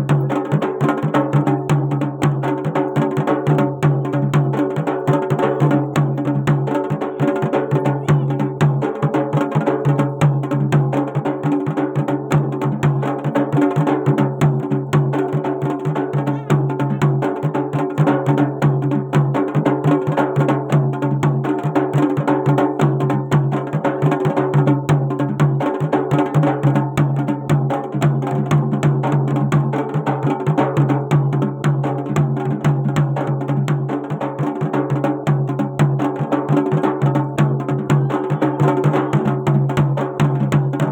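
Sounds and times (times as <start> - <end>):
fast dense drumming: 0.0 - 40.9.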